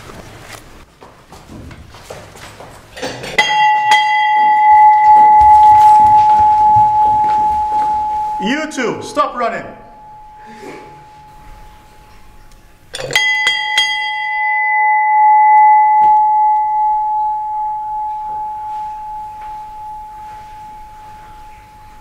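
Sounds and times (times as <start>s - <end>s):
bell ringing: 3.3s - 22.0s.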